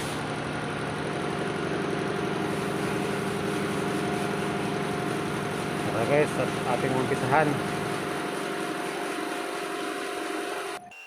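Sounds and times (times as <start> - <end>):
truck diesel engine idling: 0.0 - 10.2.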